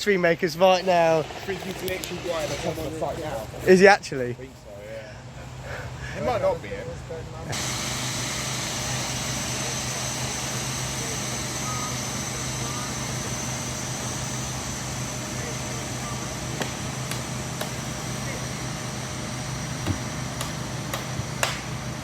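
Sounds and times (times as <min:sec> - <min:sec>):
engine drone with high whine: 0:00.6 - 0:03.6, 0:05.3 - 0:22.0.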